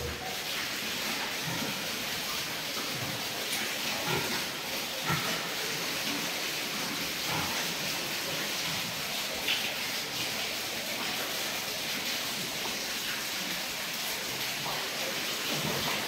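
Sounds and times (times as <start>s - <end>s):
falling water: 0.0s - 16.0s.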